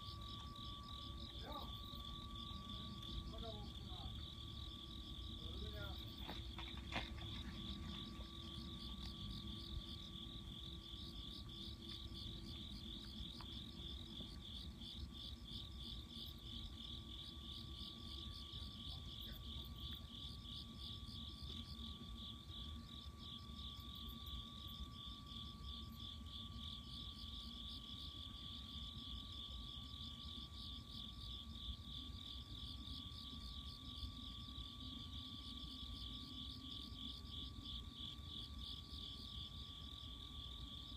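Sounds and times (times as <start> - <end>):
insects trilling: 0.0 - 40.9
thin steady tone: 0.0 - 40.9.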